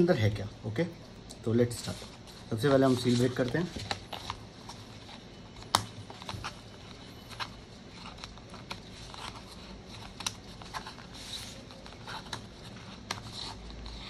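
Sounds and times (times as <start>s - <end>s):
string and paper rustling: 1.5s - 14.0s.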